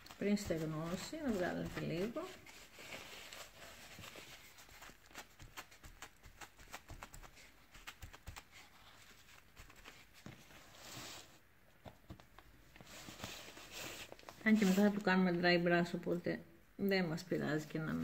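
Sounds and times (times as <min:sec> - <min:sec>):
tissue rustling and wiping: 0:00.0 - 0:11.5, 0:12.2 - 0:15.3.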